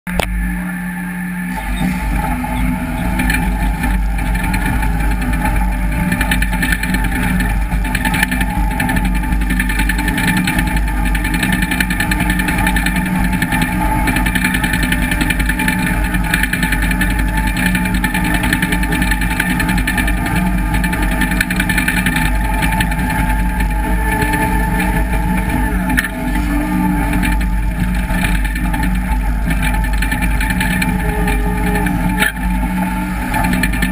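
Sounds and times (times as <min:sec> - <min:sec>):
diesel engine running under load: 0:00.1 - 0:33.9
bulldozer blade pushing dirt: 0:01.2 - 0:33.9.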